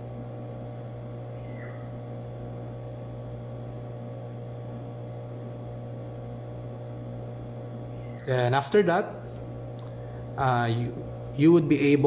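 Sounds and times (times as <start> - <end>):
faint electrical buzz: 0.0 - 12.0
low mains hum: 0.0 - 12.0.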